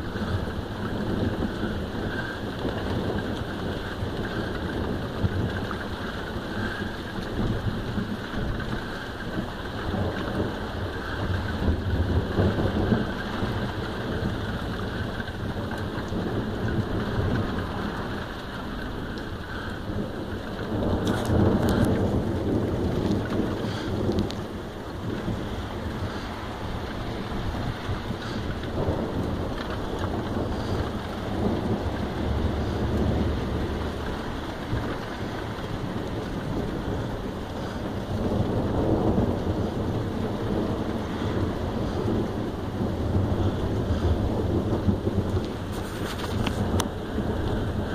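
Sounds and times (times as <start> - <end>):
heavy rain pouring: 0.0 - 47.9
low rumble of thunder: 0.0 - 47.9
sharp taps of raindrops: 0.0 - 47.9.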